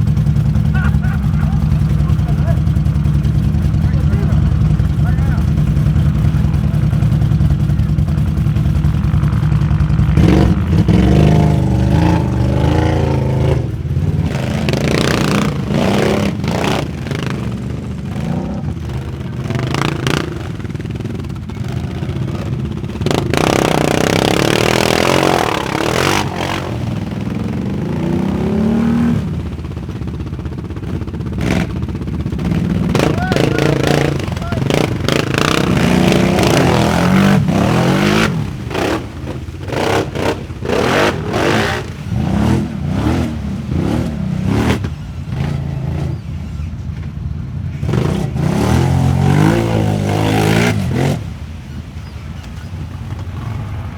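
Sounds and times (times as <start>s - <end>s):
atv engines revving: 0.0s - 53.9s.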